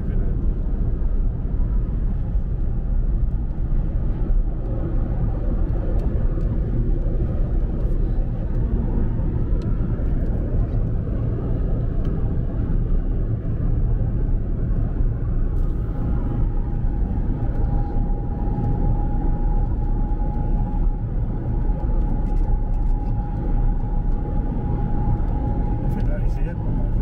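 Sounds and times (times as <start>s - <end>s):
faint steady whine: 0.0s - 27.0s
road and engine rumble in car: 0.0s - 27.0s.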